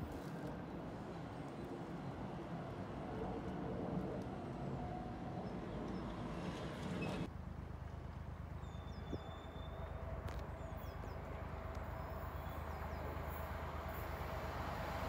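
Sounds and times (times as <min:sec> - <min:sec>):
distant train rumble: 0:00.6 - 0:15.0.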